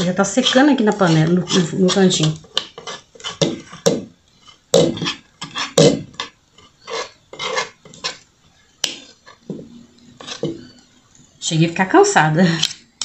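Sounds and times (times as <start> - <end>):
metal spoon scraping a pot: 0.0 - 11.1.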